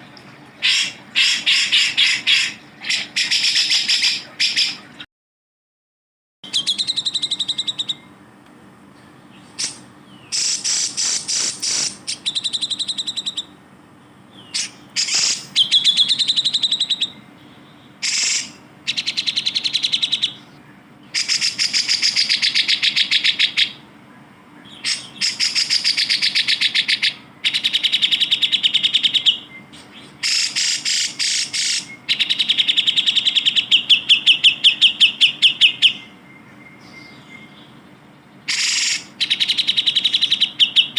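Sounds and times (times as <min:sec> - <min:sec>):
bird chattering trills: 0:00.6 - 0:05.0, 0:06.5 - 0:08.2, 0:09.2 - 0:13.6, 0:14.3 - 0:23.9, 0:24.6 - 0:40.9.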